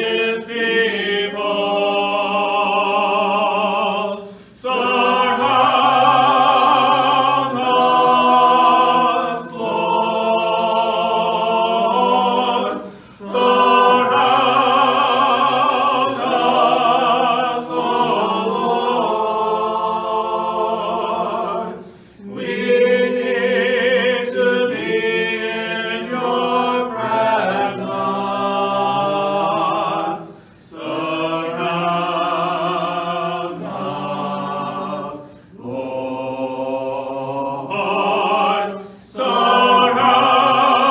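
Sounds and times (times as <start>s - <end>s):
choir singing a hymn: 0.0s - 40.9s.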